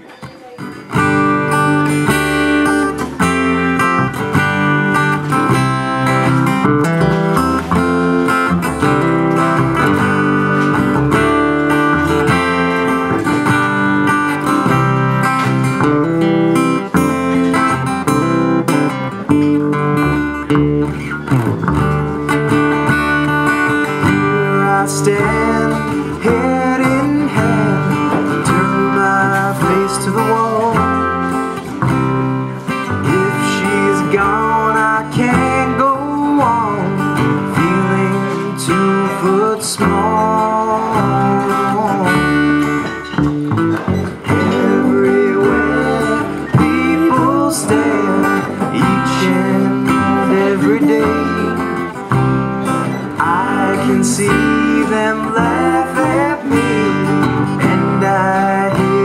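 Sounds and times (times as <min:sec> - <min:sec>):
acoustic guitar: 0:00.0 - 0:59.0
plucked upright bass: 0:00.3 - 0:59.0.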